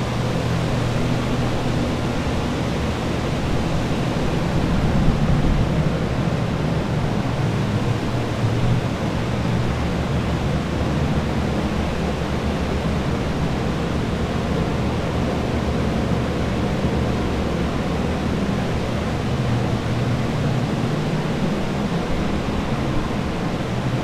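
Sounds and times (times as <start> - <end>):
dehumidifier and fans blowing: 0.0 - 24.0.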